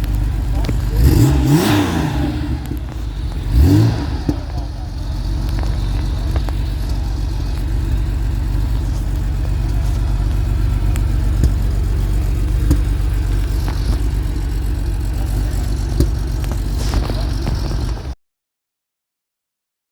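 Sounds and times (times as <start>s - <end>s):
car engine idling: 0.0s - 18.2s.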